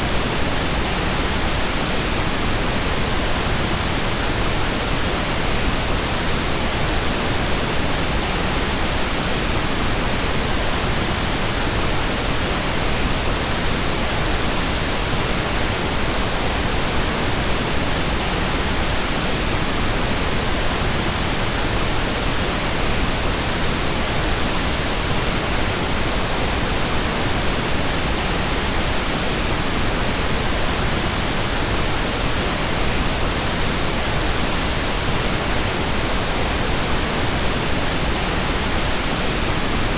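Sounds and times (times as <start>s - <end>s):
steady pink noise: 0.0s - 39.9s.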